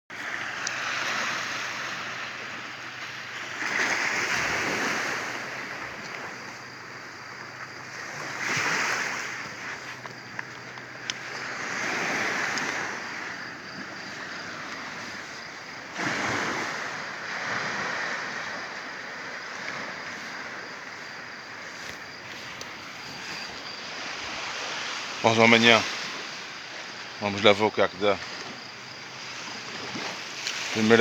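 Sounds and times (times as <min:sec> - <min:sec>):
sea waves washing in: 0:00.1 - 0:31.0.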